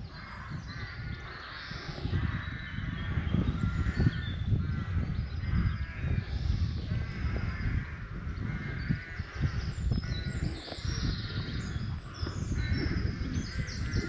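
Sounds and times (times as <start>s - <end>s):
crows cawing: 0.0s - 14.0s
low microphone rumble: 0.0s - 14.0s
small birds chirping: 0.0s - 14.0s.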